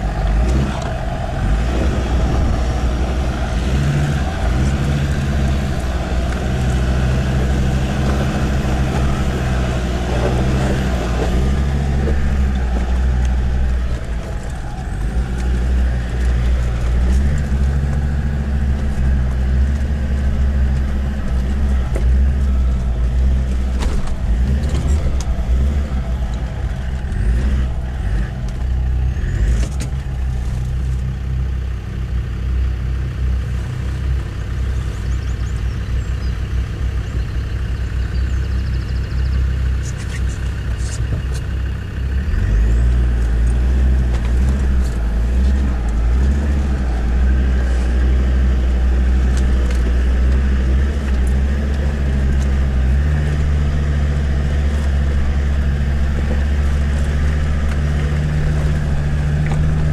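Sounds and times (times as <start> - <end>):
off-road vehicle engine from cab: 0.0 - 59.9.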